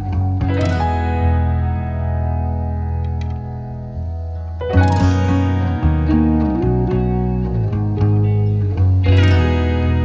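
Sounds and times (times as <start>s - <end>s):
plucked guitar-like notes: 0.0s - 10.0s.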